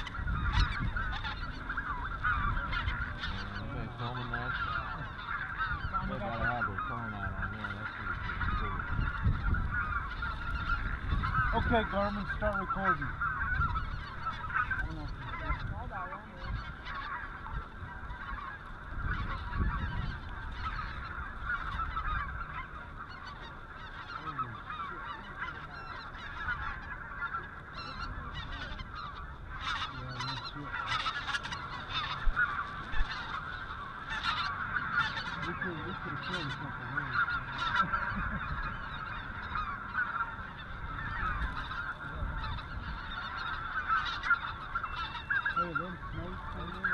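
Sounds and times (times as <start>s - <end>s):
geese honking and yelping: 0.0s - 46.9s.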